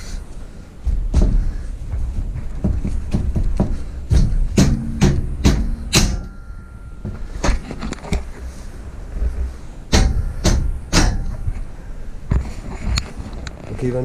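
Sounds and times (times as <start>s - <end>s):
bed frame parts knocking: 0.8s - 8.5s, 9.2s - 13.6s.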